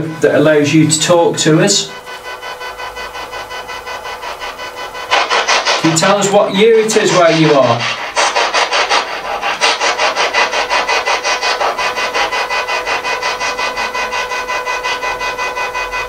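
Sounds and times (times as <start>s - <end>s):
chopped radio static bursts: 0.0s - 16.0s.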